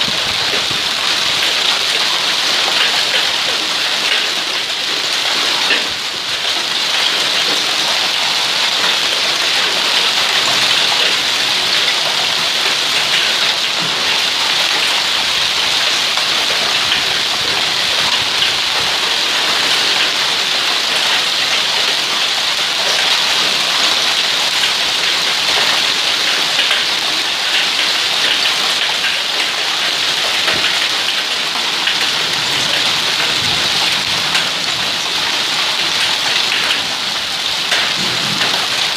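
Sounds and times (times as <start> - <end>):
hail and rain falling: 0.0 - 38.9.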